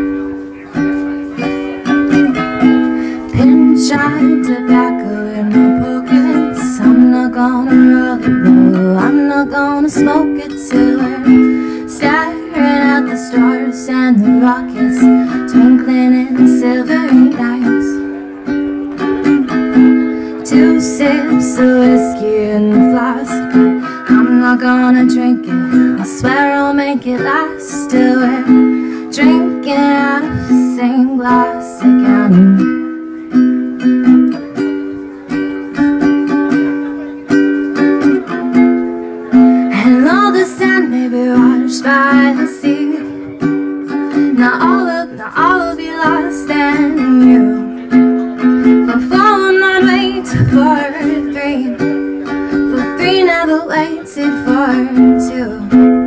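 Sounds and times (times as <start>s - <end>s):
ukulele strumming: 0.0s - 56.0s
woman singing: 1.4s - 18.0s, 19.2s - 32.8s, 39.4s - 56.0s.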